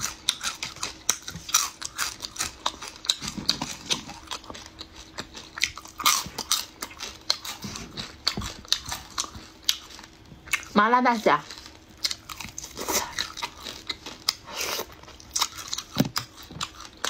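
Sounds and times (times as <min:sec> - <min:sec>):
crab shells crunching while chewed: 0:00.0 - 0:10.8, 0:11.4 - 0:17.0.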